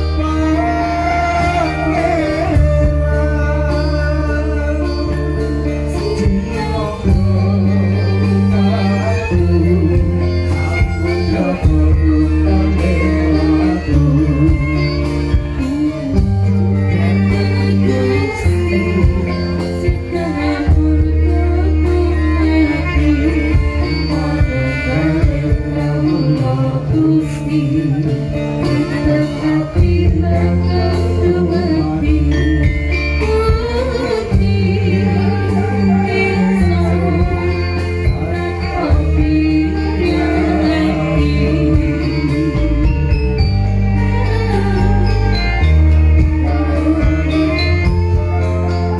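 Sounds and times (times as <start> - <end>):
gamelan band over loudspeaker: 0.0 - 48.9
person singing: 0.0 - 48.9.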